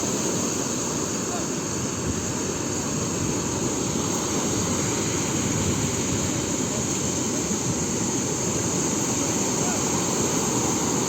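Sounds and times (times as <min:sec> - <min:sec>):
sea waves breaking on shore: 0:00.0 - 0:11.0.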